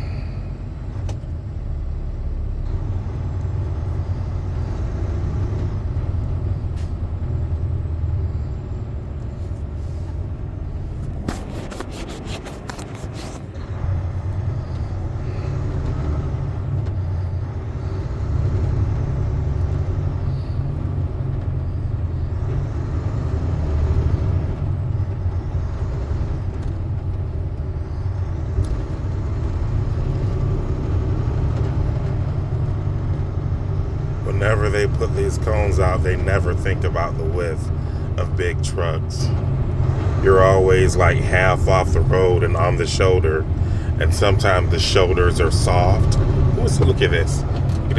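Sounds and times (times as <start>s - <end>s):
truck engine and road rumble: 0.0s - 47.9s.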